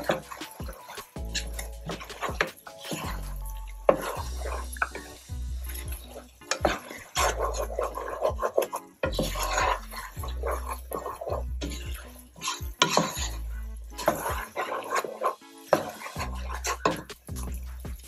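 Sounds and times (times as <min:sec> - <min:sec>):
background music with bass: 0:00.0 - 0:18.0
spoon scraping and clinking a pan: 0:00.0 - 0:18.0.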